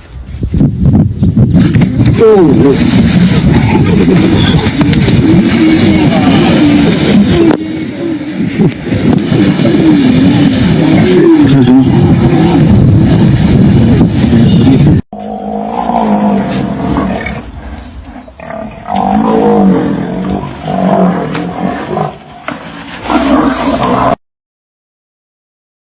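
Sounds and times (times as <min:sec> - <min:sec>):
wild animal growling and roaring: 0:01.6 - 0:24.2.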